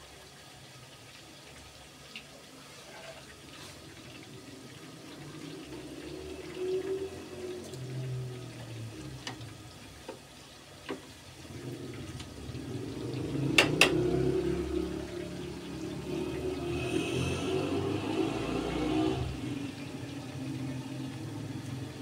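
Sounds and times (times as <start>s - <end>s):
oil bubbling and sizzling: 0.0s - 22.0s.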